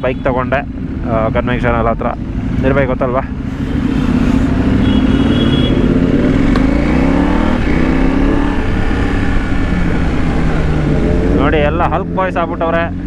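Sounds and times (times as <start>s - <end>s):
motorcycle engine accelerating: 0.7s - 13.0s.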